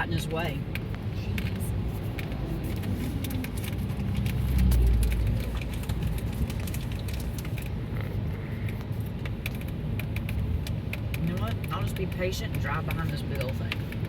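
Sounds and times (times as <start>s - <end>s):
rain ticking on car: 0.0s - 14.0s
road rumble inside car: 0.0s - 14.0s.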